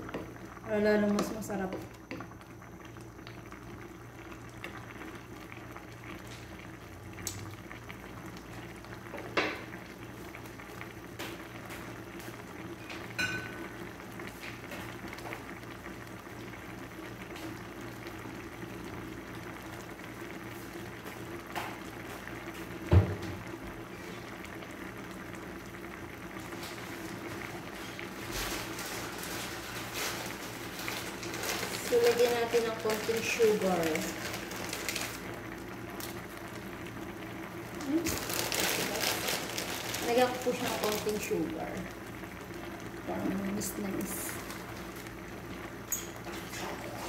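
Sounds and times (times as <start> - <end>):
sauce bubbling in a pan: 0.0 - 47.0.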